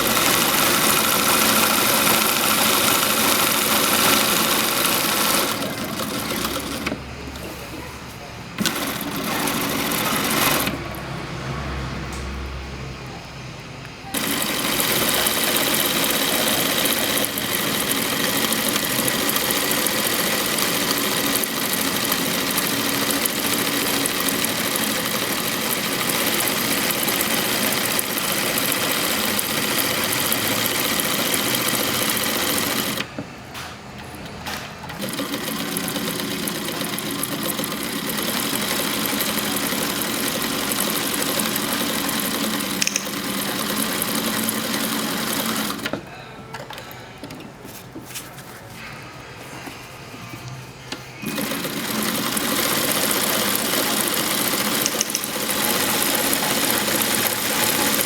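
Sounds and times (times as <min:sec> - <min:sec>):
sewing machine stitching: 0:00.0 - 0:07.9, 0:08.6 - 0:11.2, 0:14.1 - 0:33.2, 0:34.0 - 0:46.0, 0:51.2 - 0:58.0.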